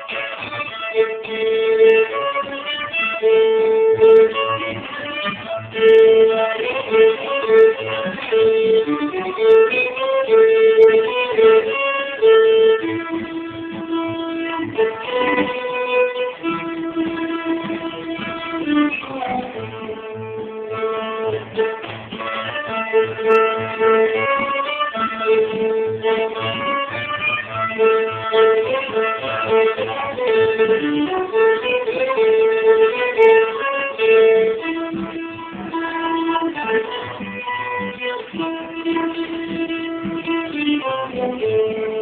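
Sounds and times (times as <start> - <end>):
acoustic guitar accompaniment: 0.0 - 42.0
fiddle playing bowed melody: 0.0 - 42.0.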